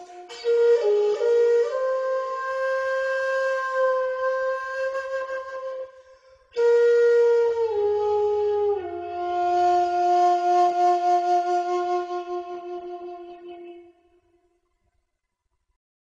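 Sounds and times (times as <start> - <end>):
bamboo flute held notes: 0.0 - 14.2.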